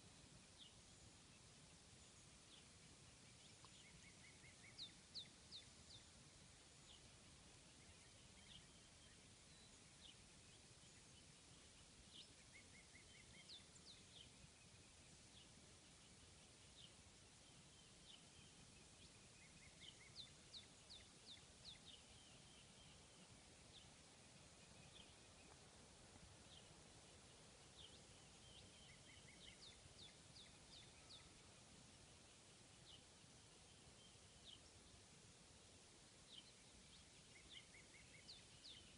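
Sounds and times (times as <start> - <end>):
background hum: 0.0 - 38.9
outdoor hiss: 0.0 - 38.9
distant bird chirps: 0.4 - 34.9, 36.2 - 38.9.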